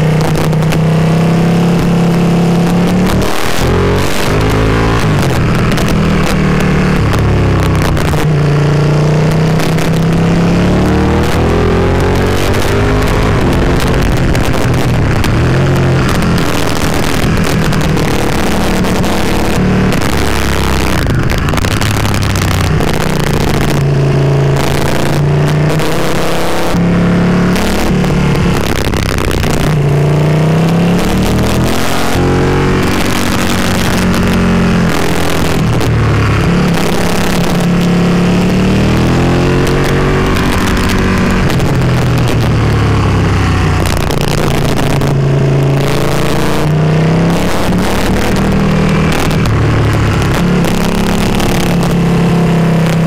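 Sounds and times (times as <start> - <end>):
motorcycle engine revving: 0.0 - 53.0
wind rush: 9.5 - 53.0.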